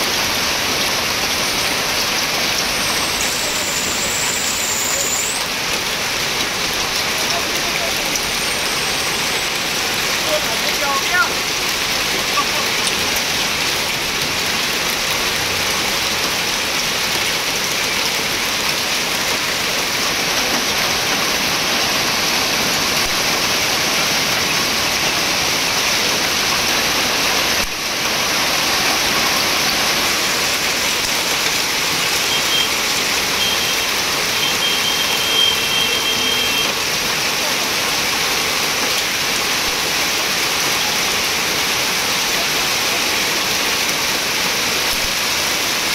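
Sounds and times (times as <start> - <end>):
heavy rain and hail pelting: 0.0 - 45.9.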